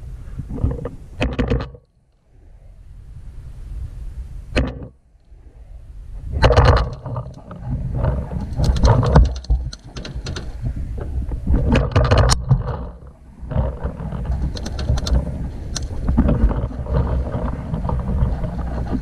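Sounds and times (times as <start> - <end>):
low rumbling on microphone: 0.0 - 19.0.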